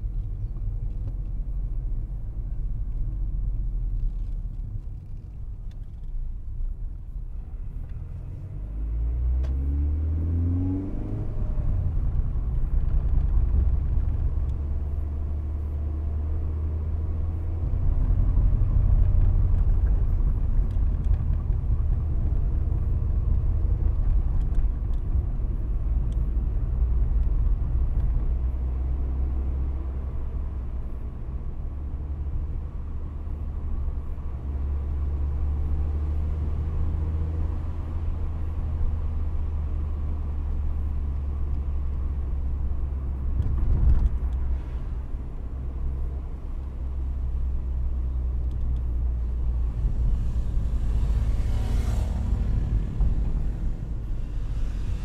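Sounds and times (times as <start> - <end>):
car engine rumbling: 0.0 - 55.0
wind and road noise: 0.0 - 55.0.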